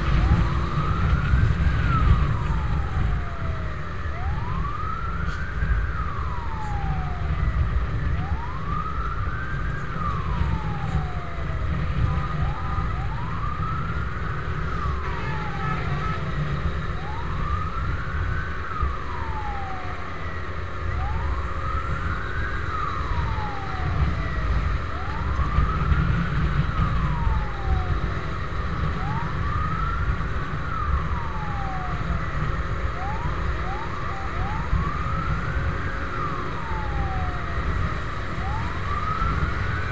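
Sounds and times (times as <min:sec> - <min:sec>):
fire truck siren wailing: 0:00.0 - 0:39.9
motorcycle wind and road rumble: 0:00.0 - 0:39.9.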